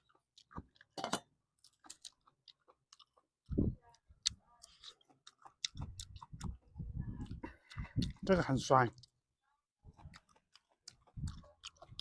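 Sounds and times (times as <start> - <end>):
chewing juicy pineapple: 0.0 - 12.0.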